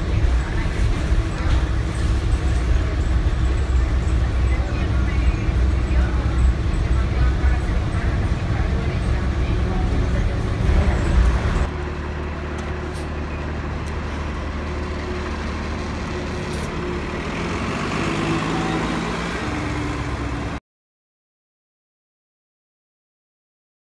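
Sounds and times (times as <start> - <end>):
diesel bus engine rumbling: 0.0 - 20.6.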